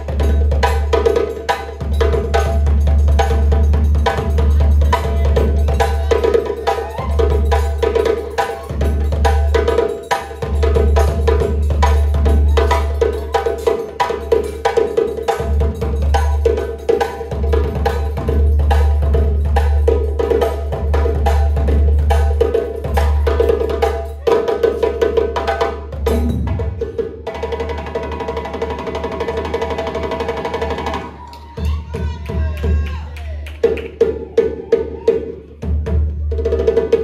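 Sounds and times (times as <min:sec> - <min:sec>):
drum ensemble playing rhythm: 0:00.0 - 0:37.0.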